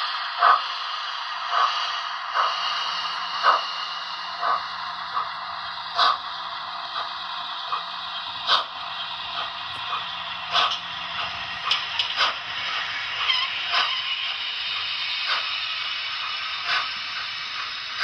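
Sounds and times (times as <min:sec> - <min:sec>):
model train running hiss: 0:00.0 - 0:18.0.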